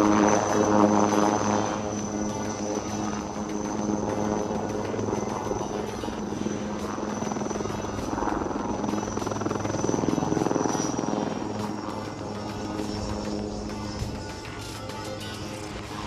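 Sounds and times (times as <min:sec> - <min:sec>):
helicopter rotor chop: 0:00.0 - 0:16.0
high turbine whine: 0:00.0 - 0:16.0.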